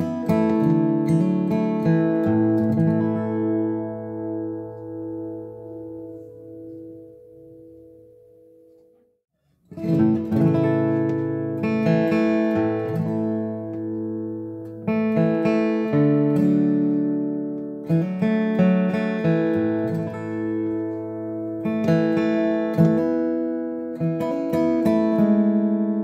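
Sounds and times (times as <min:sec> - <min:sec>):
acoustic guitar strummed chords: 0:00.0 - 0:09.0, 0:09.7 - 0:26.0.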